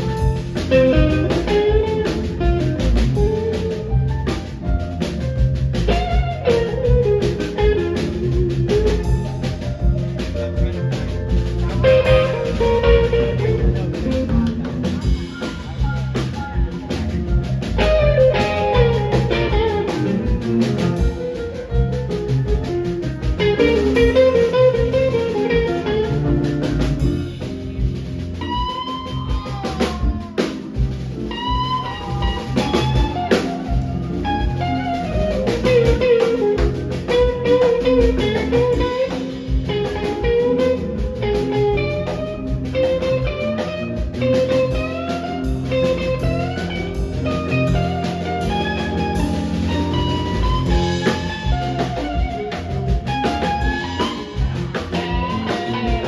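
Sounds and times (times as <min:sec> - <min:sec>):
lead guitar with bent notes: 0:00.0 - 0:56.0
rock band playing: 0:00.0 - 0:56.0.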